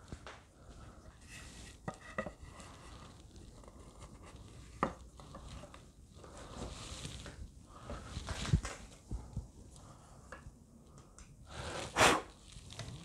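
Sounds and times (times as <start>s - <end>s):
soft rustles and small clicks: 0.0s - 11.4s, 12.4s - 13.0s.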